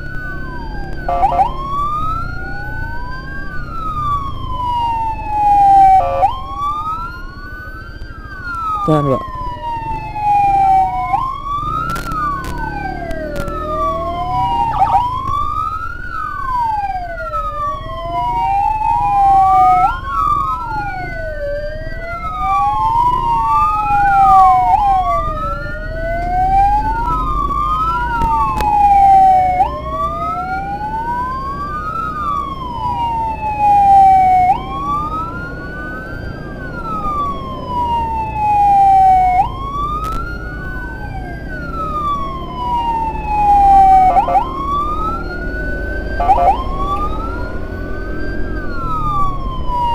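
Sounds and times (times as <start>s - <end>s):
electronic sirens wailing: 0.0s - 49.9s
rumble of engines and road: 0.0s - 49.9s.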